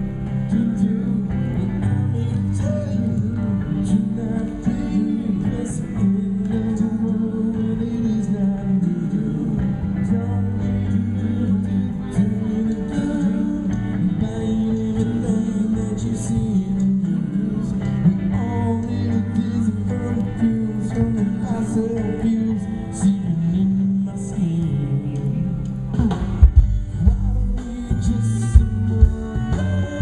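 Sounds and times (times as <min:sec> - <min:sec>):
guitar: 0:00.0 - 0:30.0
person singing: 0:00.0 - 0:30.0.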